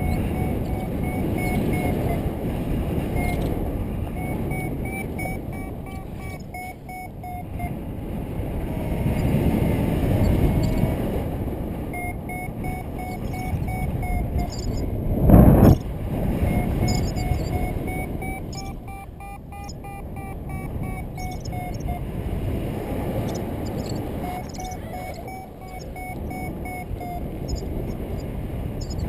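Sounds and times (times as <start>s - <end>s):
variometer beeping: 0.0s - 29.0s
wind rushing over microphone: 0.0s - 29.0s.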